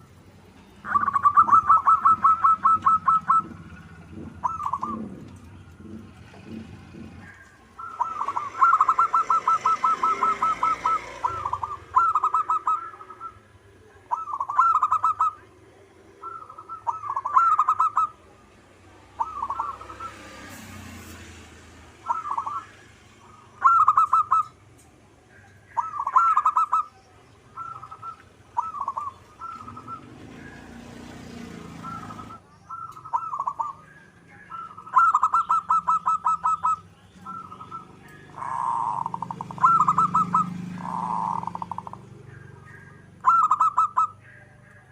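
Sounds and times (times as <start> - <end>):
dove cooing: 0.8 - 44.9.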